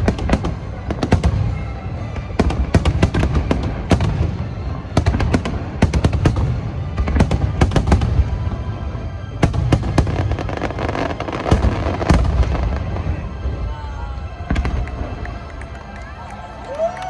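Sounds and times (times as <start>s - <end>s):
fireworks cracking: 0.0s - 17.0s.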